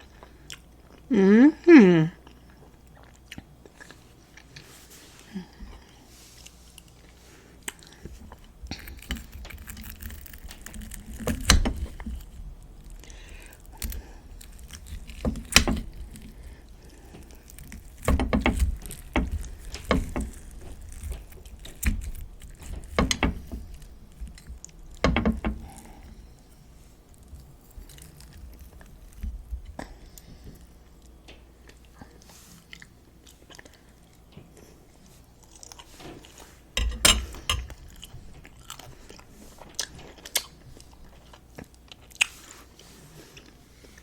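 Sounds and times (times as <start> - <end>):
chewing food: 2.2 - 25.0, 25.6 - 36.5, 37.2 - 44.0.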